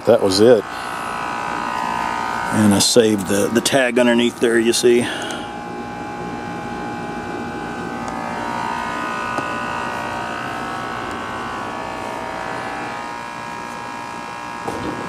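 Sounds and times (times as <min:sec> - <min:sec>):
lawn tractor engine buzzing: 0:00.0 - 0:15.0.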